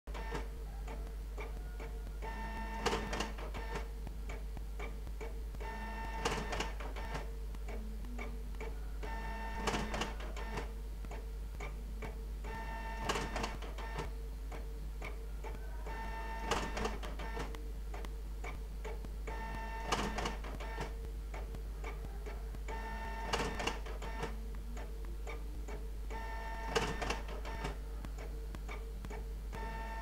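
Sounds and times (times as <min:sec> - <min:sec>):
steady low hum: 0:00.1 - 0:30.0.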